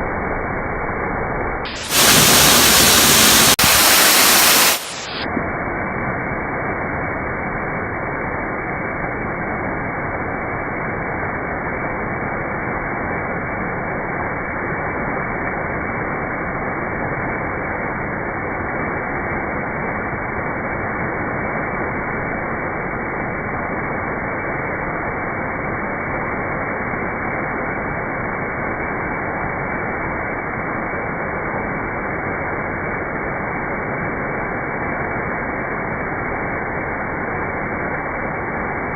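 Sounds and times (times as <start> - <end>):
muffled falling water roar: 0.0 - 38.9.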